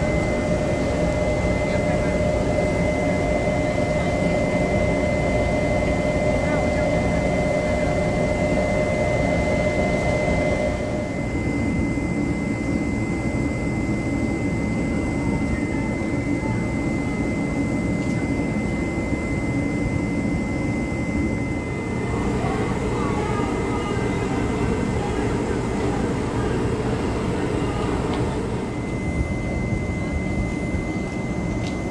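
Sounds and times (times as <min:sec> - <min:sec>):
mid-pitched hum: 0:00.0 - 0:31.9
train locomotive rumble and whine: 0:00.0 - 0:31.9.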